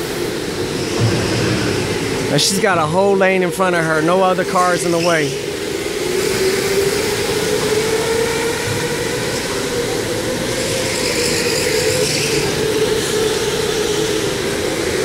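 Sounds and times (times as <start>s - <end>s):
electric go-kart motors whining: 0.0s - 15.0s.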